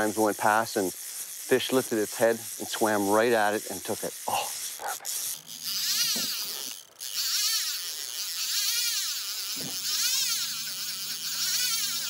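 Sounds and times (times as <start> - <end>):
fishing reel drag whining: 0.0 - 12.0.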